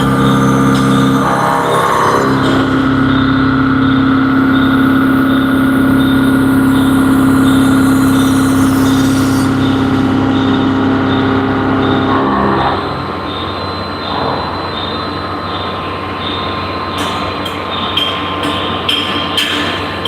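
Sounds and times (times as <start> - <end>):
machining centre pitched whine: 0.0 - 20.0.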